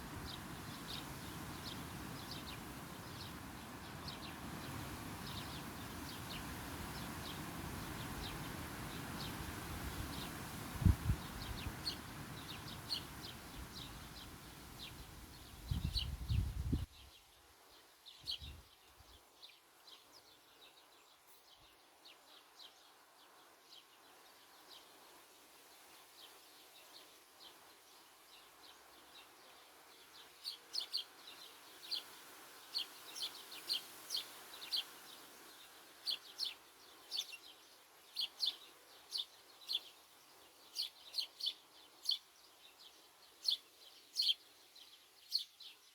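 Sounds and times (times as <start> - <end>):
small songbirds chirping: 0.0 - 45.9.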